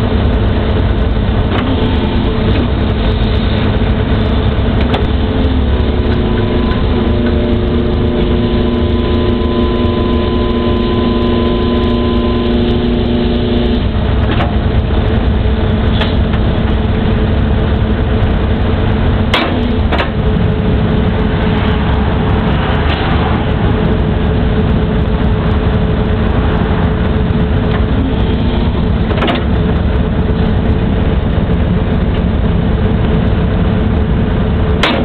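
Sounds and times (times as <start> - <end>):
excavator diesel engine running: 0.0 - 35.0
hydraulic whine: 0.0 - 35.0.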